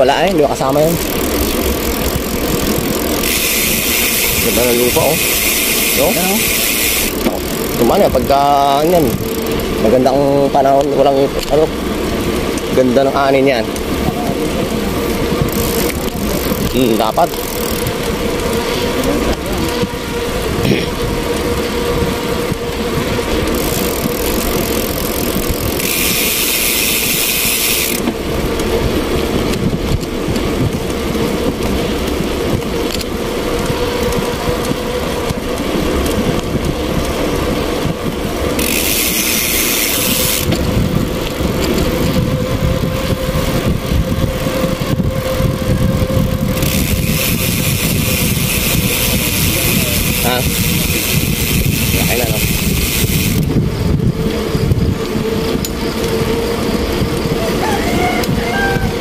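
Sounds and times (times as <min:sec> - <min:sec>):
motorcycle engine running: 0:00.0 - 0:57.6.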